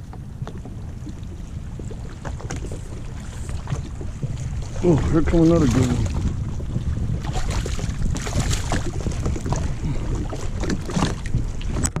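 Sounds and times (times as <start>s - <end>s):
steady low rumble: 0.0s - 12.0s
wind buffeting microphone: 0.0s - 12.0s
splashing water: 0.5s - 12.0s.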